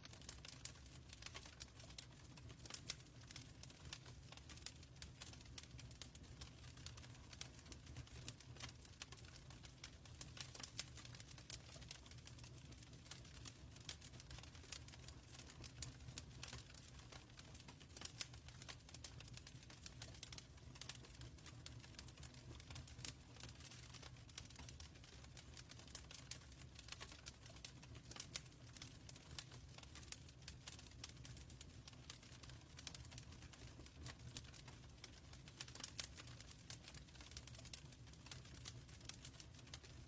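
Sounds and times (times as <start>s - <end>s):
wood fire crackling: 0.0s - 40.0s
low rumble of flames: 0.1s - 40.0s.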